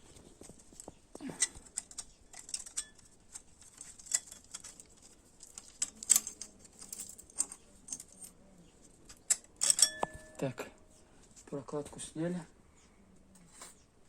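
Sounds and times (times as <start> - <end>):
clinks of metal parts and tools: 0.1 - 11.5.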